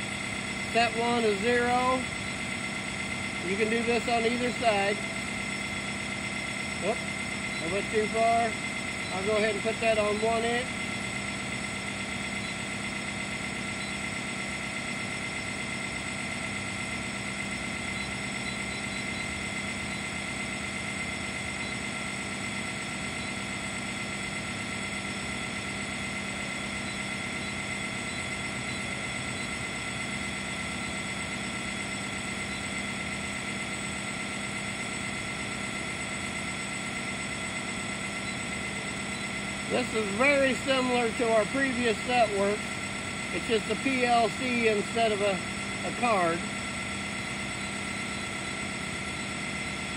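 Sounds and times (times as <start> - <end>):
machinery idling hum: 0.0 - 49.9.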